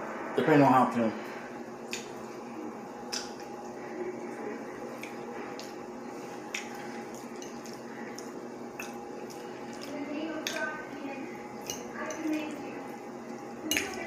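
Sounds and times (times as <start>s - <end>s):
faint steady hum: 0.0s - 14.0s
chewing food: 1.8s - 14.0s.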